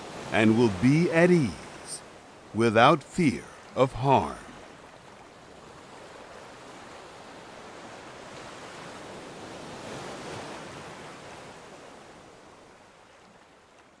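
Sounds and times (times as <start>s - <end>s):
ocean wave washing: 0.0s - 13.4s.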